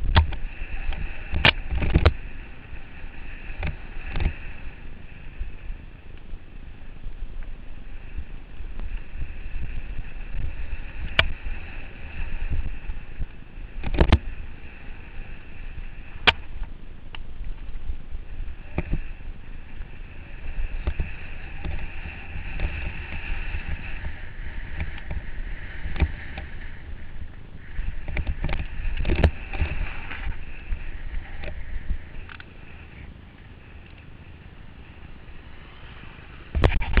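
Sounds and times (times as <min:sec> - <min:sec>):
bike tyres rumbling on trail: 0:00.0 - 0:37.0.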